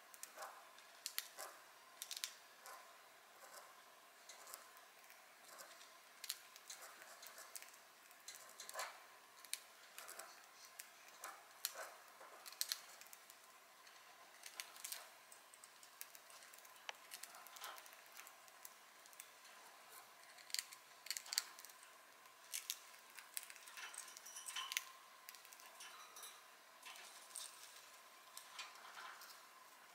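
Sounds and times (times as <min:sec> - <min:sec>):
bird nibbling dry toast: 0:00.1 - 0:26.0.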